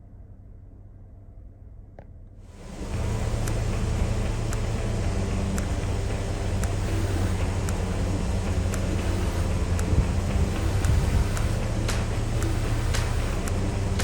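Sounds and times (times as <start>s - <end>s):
vehicle noise with low hum: 0.0s - 14.0s
faint sharp ticks: 2.6s - 14.0s.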